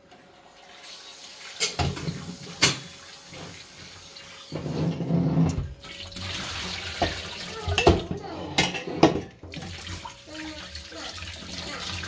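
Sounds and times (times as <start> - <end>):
tap water running into metal pot: 0.1 - 4.7, 5.8 - 12.0.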